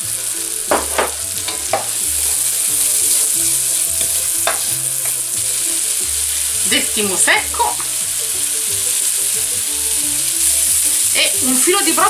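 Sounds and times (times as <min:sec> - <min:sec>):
mushrooms sizzling in butter: 0:00.0 - 0:12.0.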